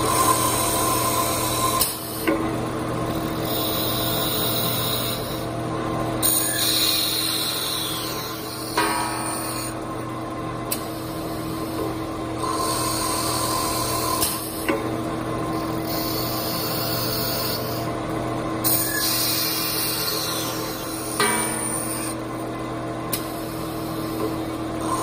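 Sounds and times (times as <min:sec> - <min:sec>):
lathe motor hum: 0:00.0 - 0:25.0.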